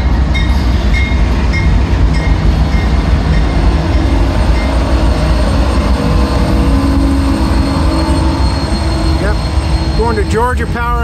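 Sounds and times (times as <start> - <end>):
crossing bell dinging: 0.0 - 11.0
locomotive engines rumbling: 0.0 - 11.0
steel wheels rolling on rails: 0.0 - 11.0.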